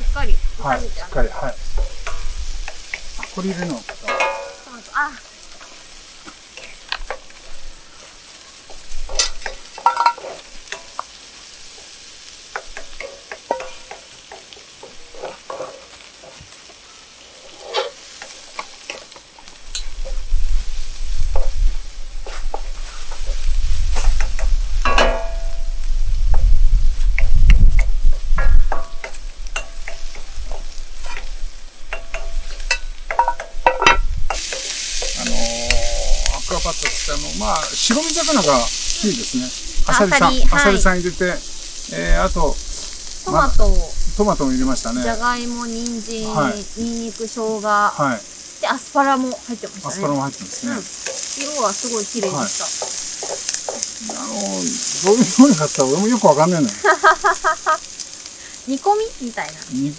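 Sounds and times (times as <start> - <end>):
onions sizzling: 0.0 - 59.9
spatula scraping wok: 1.4 - 43.2, 47.6 - 58.6.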